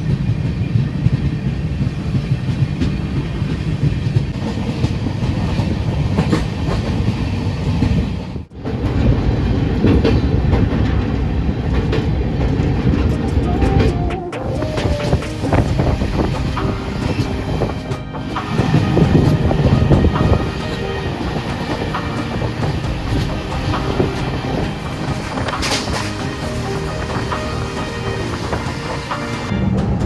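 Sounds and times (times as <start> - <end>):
train rumbling: 0.0 - 30.0
wheels clattering over rail joints: 0.0 - 30.0.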